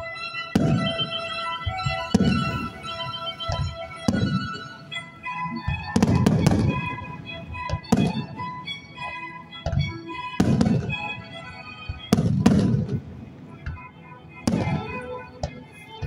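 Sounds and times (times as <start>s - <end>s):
music playing: 0.0s - 16.0s
firework shells bursting: 0.6s - 5.0s, 5.6s - 13.8s, 14.4s - 15.8s.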